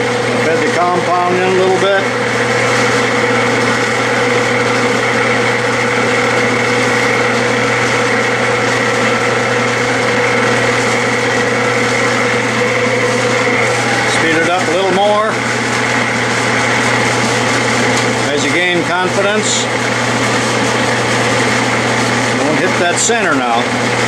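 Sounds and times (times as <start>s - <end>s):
metal lathe humming and whining: 0.0s - 24.0s.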